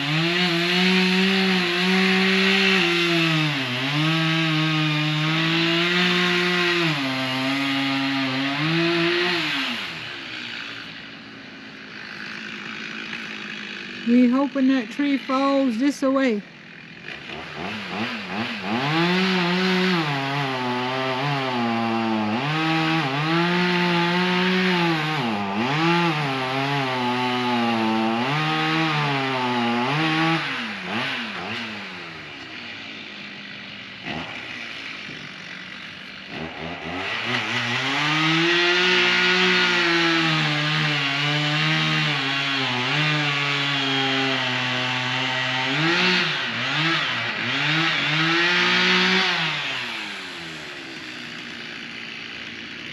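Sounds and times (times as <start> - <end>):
engine revving: 0.0 - 52.9.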